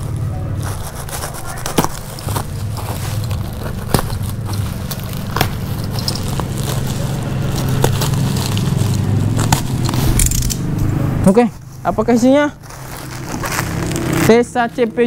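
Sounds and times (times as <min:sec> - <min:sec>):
plastic sack crackling and scraping: 0:00.0 - 0:10.4, 0:11.2 - 0:15.0.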